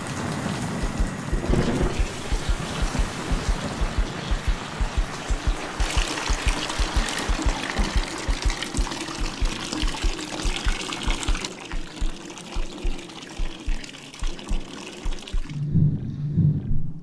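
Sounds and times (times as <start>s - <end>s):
water trickling: 0.0s - 15.6s
low thuds: 0.8s - 17.0s.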